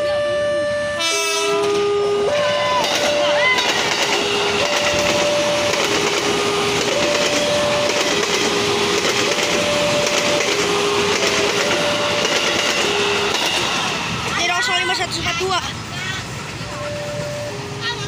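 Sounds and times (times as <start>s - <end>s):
level-crossing warning alarm: 0.0s - 15.0s, 16.6s - 18.0s
electric train passing: 0.0s - 18.0s
train wheels rushing on rails: 1.2s - 18.0s.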